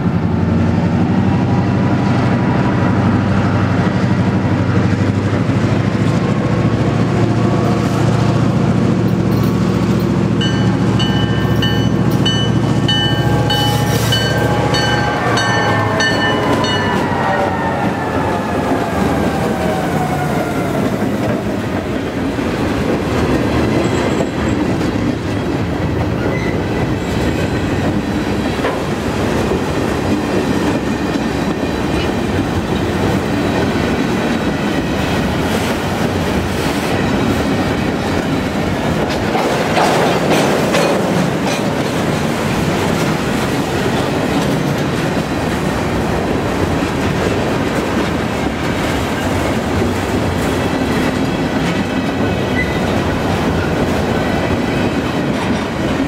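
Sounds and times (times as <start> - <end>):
clickety-clack over rail joints: 0.0 - 56.0
diesel locomotive engine drone: 0.0 - 56.0
rattling freight cars: 0.0 - 56.0
train wheels rumbling on rail: 0.0 - 56.0.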